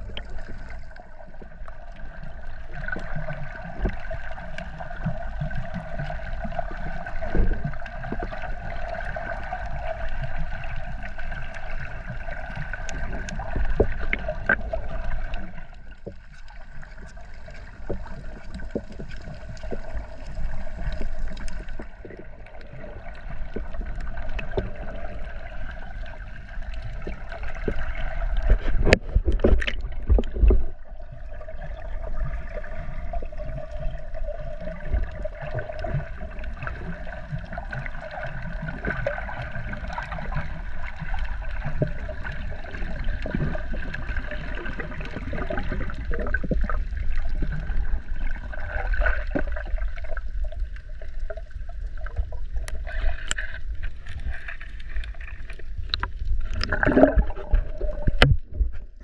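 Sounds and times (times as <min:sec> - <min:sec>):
underwater gurgling and crackling: 0:00.0 - 0:59.0.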